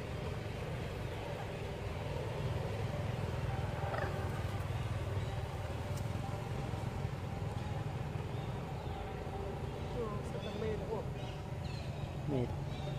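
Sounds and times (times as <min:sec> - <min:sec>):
low outdoor rumble: 0:00.0 - 0:12.9.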